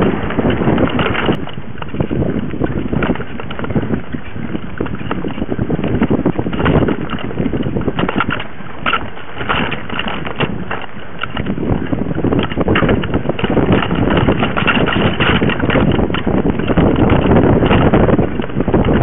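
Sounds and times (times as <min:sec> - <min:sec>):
bike frame rattling and knocking: 0:00.0 - 0:19.0
tyres rolling over dirt: 0:00.0 - 0:19.0
wind on microphone: 0:00.0 - 0:19.0.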